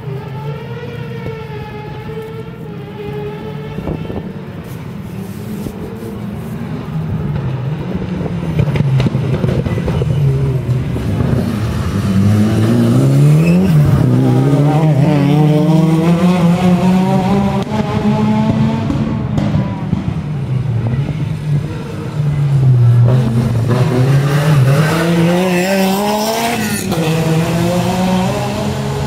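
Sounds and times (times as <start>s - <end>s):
rally car engine revving: 5.7s - 29.0s.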